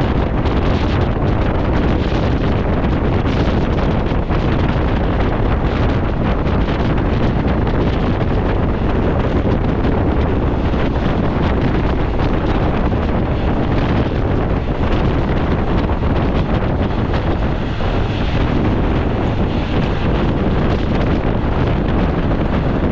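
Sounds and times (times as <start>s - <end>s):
train running noise: 0.0s - 22.9s
wind buffeting microphone: 0.0s - 22.9s.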